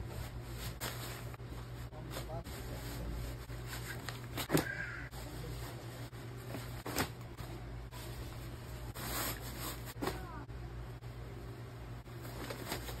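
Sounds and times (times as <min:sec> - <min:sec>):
clothes rustling: 0:00.0 - 0:10.4
steady low hum: 0:00.0 - 0:13.0.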